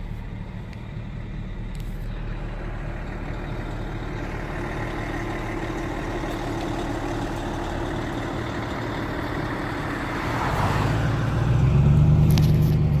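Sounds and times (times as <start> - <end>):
car engine idling: 0.0 - 13.0
deep engine sound: 0.0 - 13.0
tour coach engine and road noise: 0.0 - 13.0.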